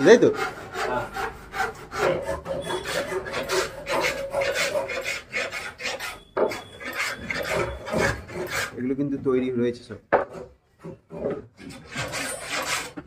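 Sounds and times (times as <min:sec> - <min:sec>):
tool rasping on wood: 0:00.0 - 0:09.0, 0:10.2 - 0:13.0.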